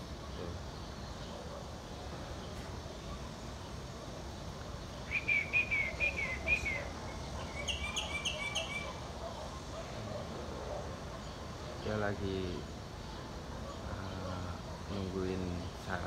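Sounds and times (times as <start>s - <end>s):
myna calling: 0.0s - 15.8s
low background noise: 0.0s - 16.0s.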